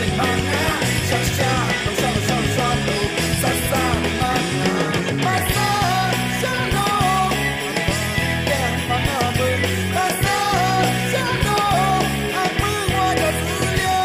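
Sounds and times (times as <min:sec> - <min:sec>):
band with bass and drums: 0:00.0 - 0:14.0
person singing: 0:00.0 - 0:14.0.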